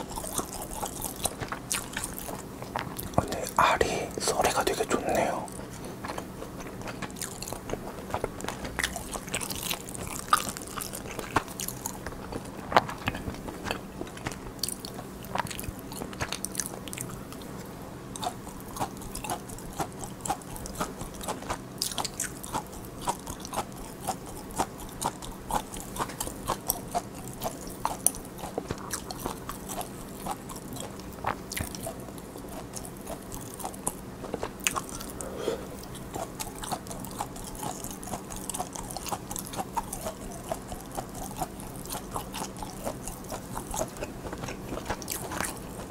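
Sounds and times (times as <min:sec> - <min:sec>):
chewing with wet mouth clicks: 0:00.0 - 0:03.5, 0:04.4 - 0:45.9
faint steady hum: 0:00.0 - 0:45.9.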